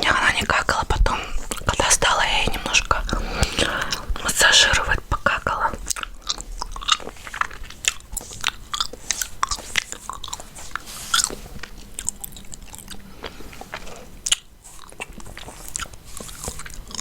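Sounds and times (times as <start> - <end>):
gum chewing mouth clicks: 0.4 - 17.0.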